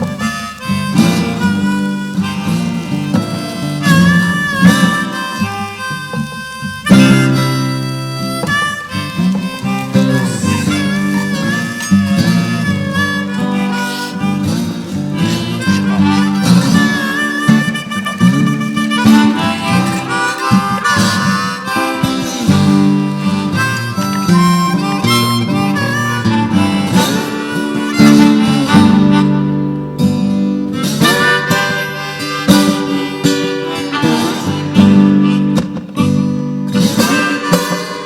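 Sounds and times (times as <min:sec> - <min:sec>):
acoustic guitar accompaniment: 0:00.0 - 0:38.0
harmonica melody: 0:00.0 - 0:38.0.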